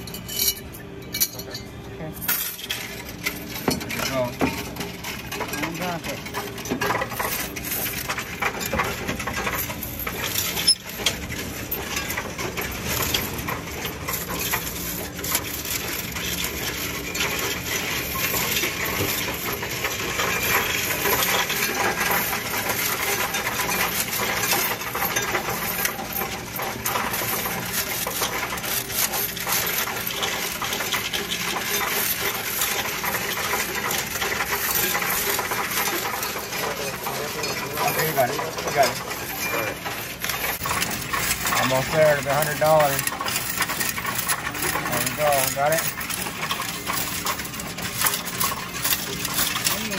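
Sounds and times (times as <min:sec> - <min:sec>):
coins clattering through counting machine: 0:00.0 - 0:49.9.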